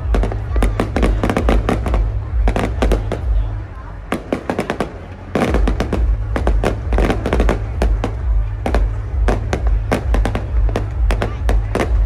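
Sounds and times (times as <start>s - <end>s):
continuous low rumble: 0.0s - 12.0s
fireworks bursting with bangs: 0.0s - 12.0s.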